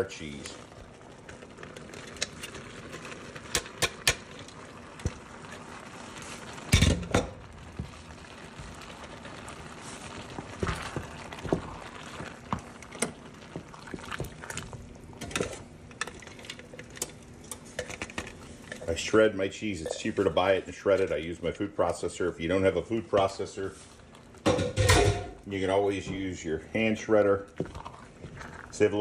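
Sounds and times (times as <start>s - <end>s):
simmering pot hiss: 0.0s - 29.0s.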